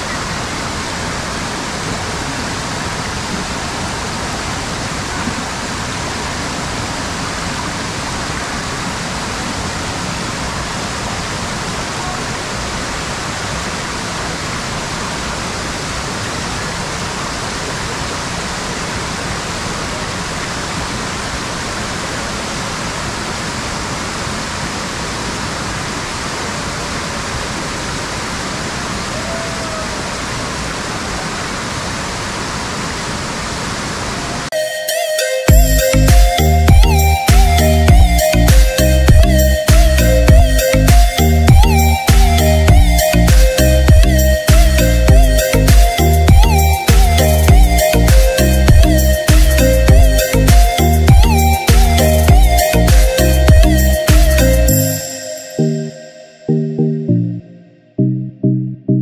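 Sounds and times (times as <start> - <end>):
waterfall rushing: 0.0 - 56.7.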